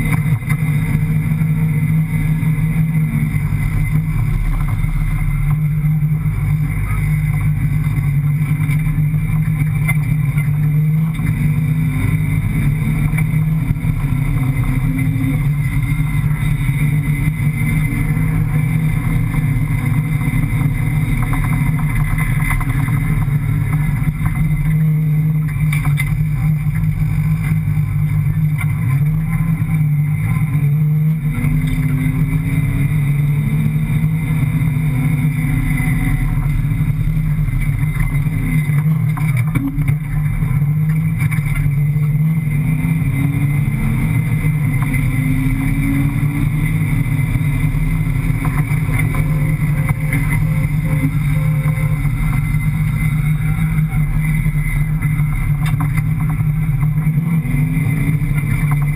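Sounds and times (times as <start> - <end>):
loud engine drone revving: 0.0 - 58.9.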